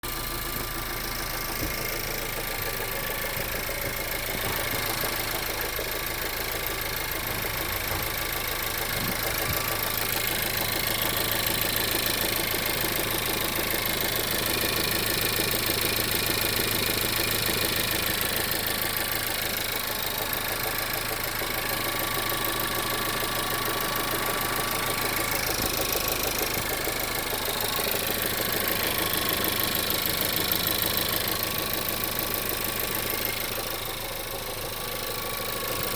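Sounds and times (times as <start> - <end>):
car engine idling: 0.0 - 35.9
engine knocking: 0.0 - 35.9.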